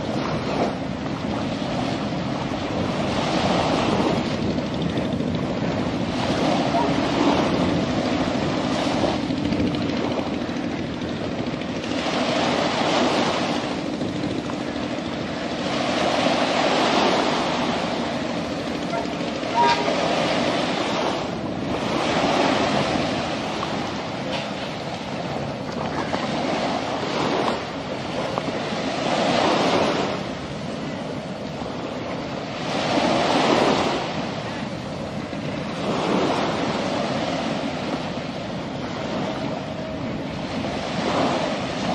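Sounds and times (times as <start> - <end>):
sea waves washing: 0.0 - 41.9
train rumbling over bridge: 0.0 - 41.9
wind on microphone: 0.0 - 41.9.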